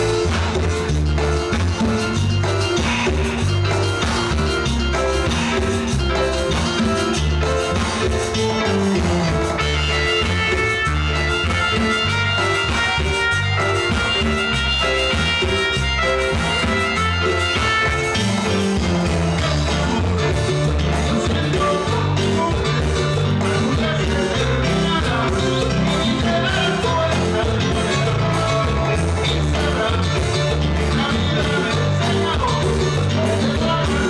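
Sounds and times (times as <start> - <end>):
band playing latin dance music: 0.0 - 34.0.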